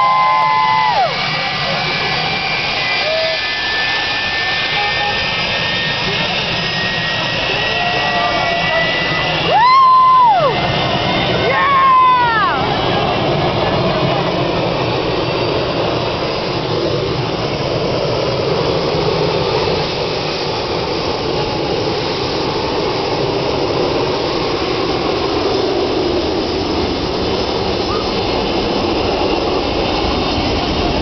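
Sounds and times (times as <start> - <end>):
jet engines running loud: 0.0 - 31.0.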